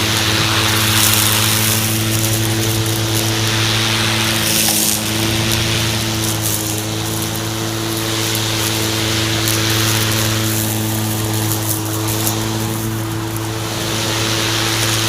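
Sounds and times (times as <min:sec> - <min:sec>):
electric lawn mower humming: 0:00.0 - 0:15.0.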